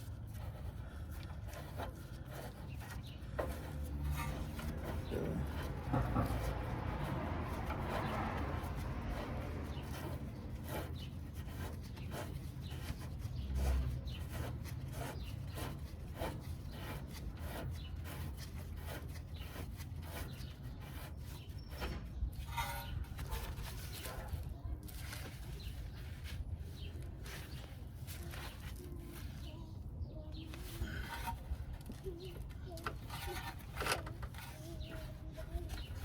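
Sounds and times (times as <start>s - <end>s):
metal scraping on metal: 0.0s - 29.6s, 30.4s - 36.0s.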